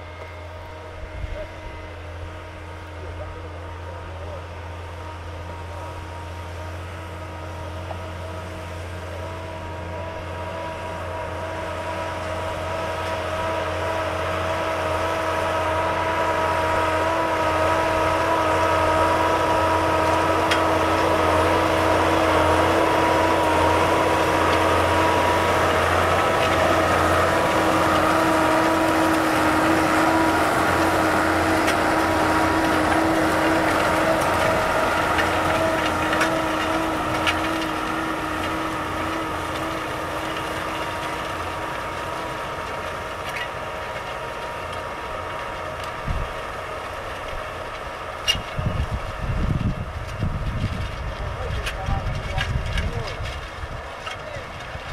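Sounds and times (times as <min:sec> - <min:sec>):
tractor engine droning: 0:00.0 - 0:54.9.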